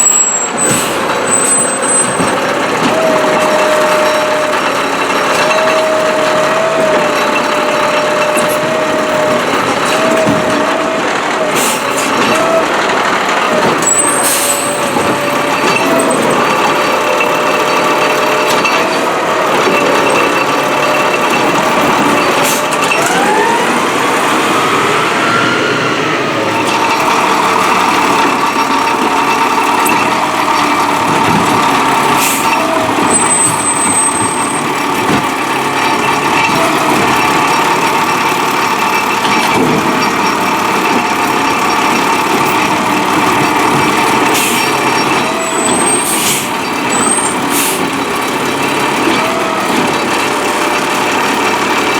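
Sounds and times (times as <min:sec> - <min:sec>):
hydraulic whine: 0:00.0 - 0:51.9
truck engine and hydraulics: 0:00.0 - 0:51.9.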